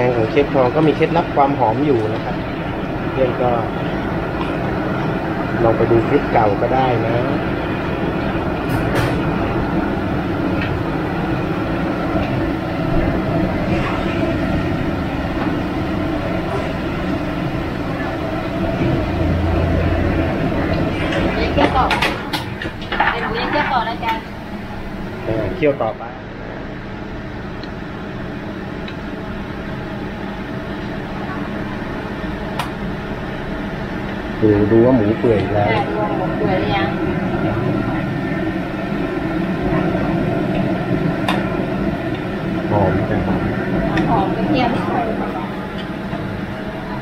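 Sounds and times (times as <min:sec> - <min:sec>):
low hum: 0:00.0 - 0:47.0
mechanical rumble: 0:00.0 - 0:47.0.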